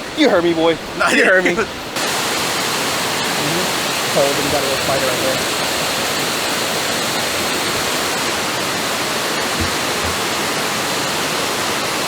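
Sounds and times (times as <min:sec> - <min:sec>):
waterfall roar: 0:00.9 - 0:12.0.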